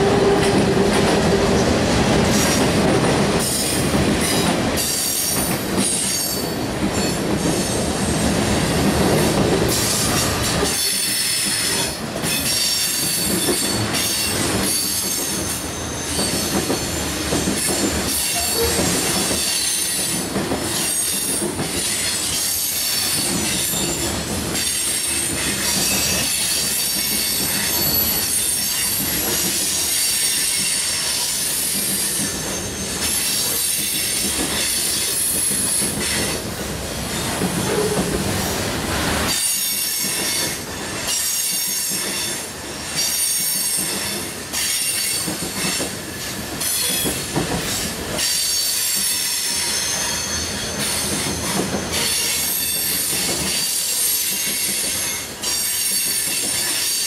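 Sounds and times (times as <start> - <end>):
train wheels squealing on rail: 0.0 - 2.7, 3.4 - 57.0
train cars rumbling and clattering: 0.0 - 57.0.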